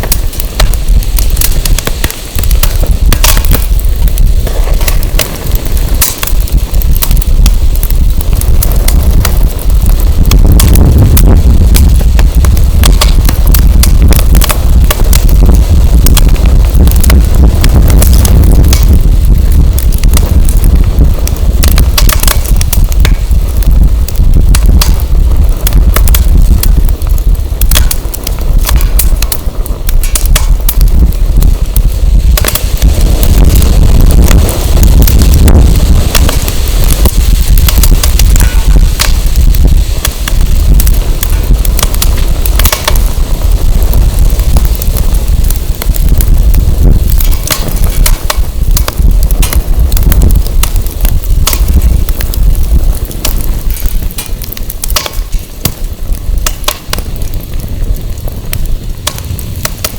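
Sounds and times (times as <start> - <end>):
firewood crackling and popping: 0.0 - 59.9
wind buffeting microphone: 0.0 - 59.9.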